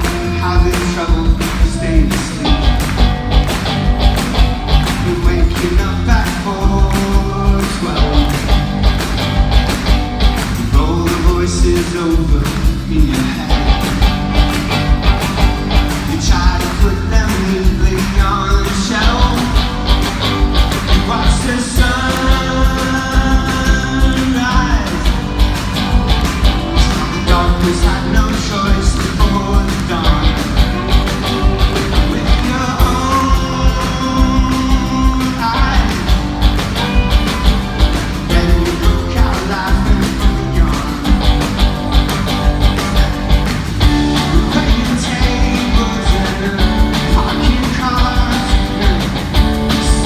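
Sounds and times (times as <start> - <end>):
person singing: 0.0 - 3.0, 4.8 - 8.7, 10.6 - 14.8, 15.9 - 36.3, 37.2 - 50.0
driving drumbeat: 0.0 - 50.0
rock band playing live: 0.0 - 50.0.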